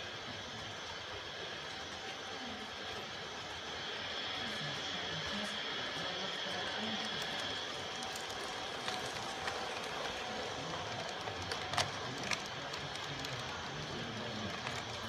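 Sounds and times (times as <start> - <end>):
model train rolling whir: 0.0 - 15.0.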